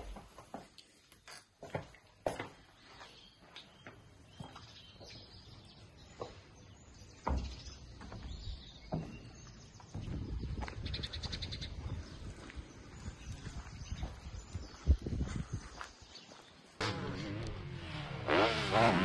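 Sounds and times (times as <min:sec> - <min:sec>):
small birds chirping: 0:00.0 - 0:16.8.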